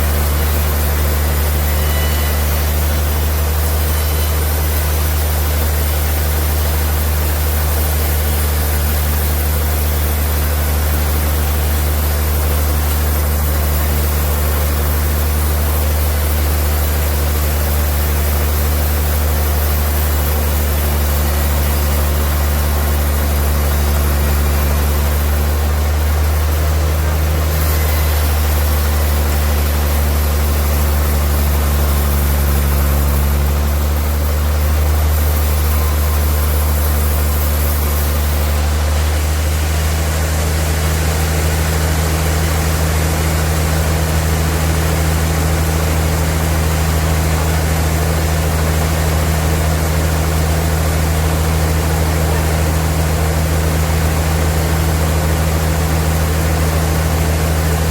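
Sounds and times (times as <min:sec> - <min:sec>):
high-pitched hiss: 0:00.0 - 0:47.5
sawmill machinery humming: 0:00.0 - 0:57.9.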